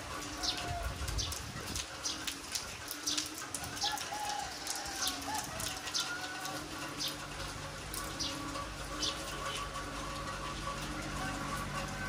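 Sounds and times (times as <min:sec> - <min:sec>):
heavy rain falling: 0:00.0 - 0:12.0
water drips splashing: 0:00.0 - 0:12.0.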